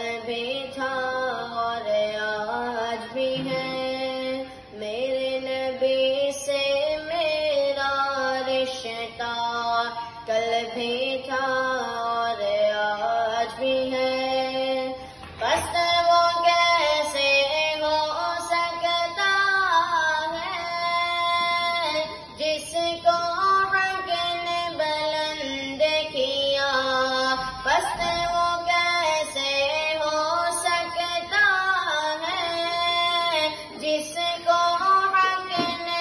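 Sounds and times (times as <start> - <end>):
boy singing into microphone: 0.0 - 36.0.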